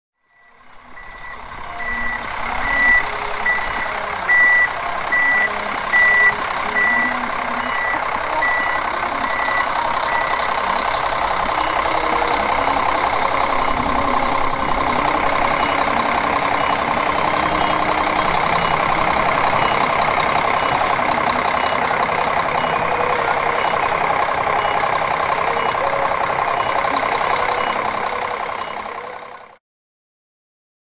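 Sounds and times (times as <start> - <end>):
reversing alarm beeping: 0.2 - 29.6
tractor engine running: 0.2 - 29.6.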